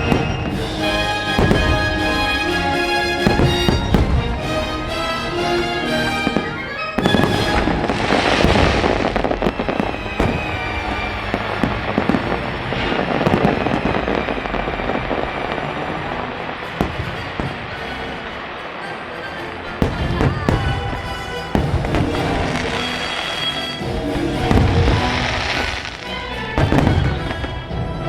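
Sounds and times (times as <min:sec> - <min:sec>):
fireworks popping and banging: 0:00.0 - 0:27.8
fireworks booming and crackling: 0:00.0 - 0:28.0
show music: 0:00.0 - 0:28.0.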